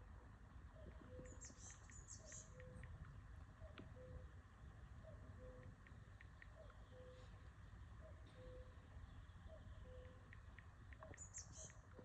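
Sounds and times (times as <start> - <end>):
faint low hum: 0.0 - 12.0
faint bird chirps: 0.7 - 12.0.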